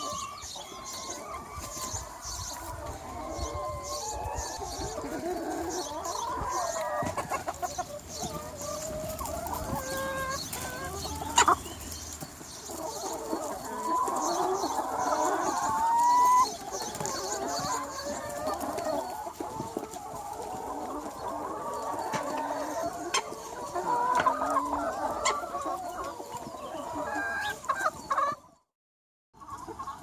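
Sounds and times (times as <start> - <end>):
chickens clucking: 0.0 - 28.7, 29.4 - 30.0.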